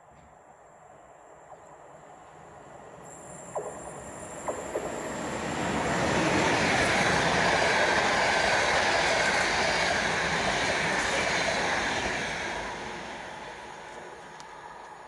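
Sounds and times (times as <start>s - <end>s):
passenger train passing: 0.5s - 15.0s.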